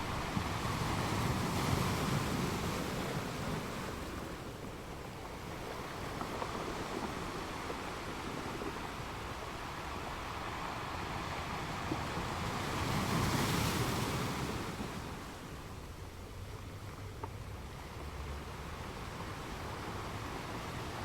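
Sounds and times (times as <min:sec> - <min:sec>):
sea waves washing onto beach: 0:00.0 - 0:16.0, 0:17.8 - 0:21.0.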